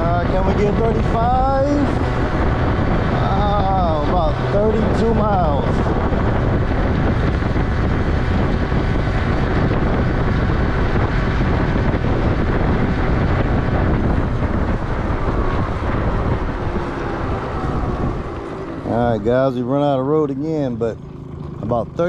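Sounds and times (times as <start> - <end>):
scooter engine running under load: 0.0 - 22.0
wind buffeting the microphone: 0.0 - 22.0.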